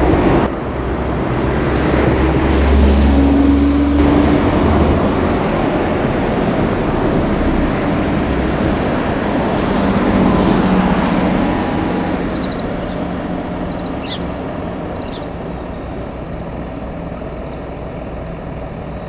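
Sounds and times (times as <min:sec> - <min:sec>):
road traffic noise: 0:00.0 - 0:19.0
vehicle passing rumble: 0:00.0 - 0:19.0.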